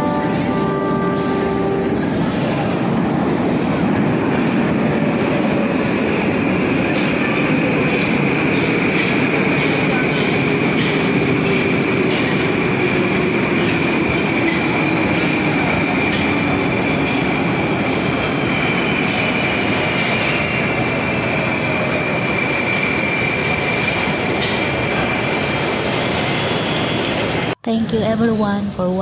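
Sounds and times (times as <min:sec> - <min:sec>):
metro train rumbling: 0:00.0 - 0:29.0
train high whine: 0:00.0 - 0:29.0.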